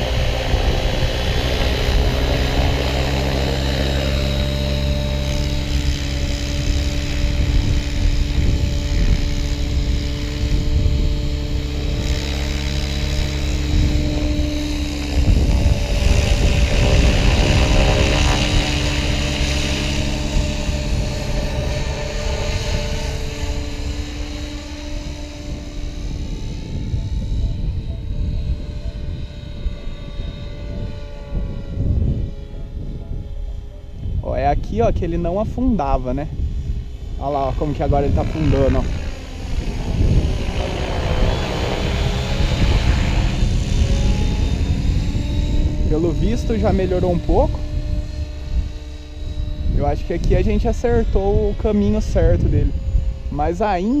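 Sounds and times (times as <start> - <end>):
rotor blades whooshing: 0.0 - 28.1, 29.3 - 54.0
electric motor whine: 0.0 - 54.0.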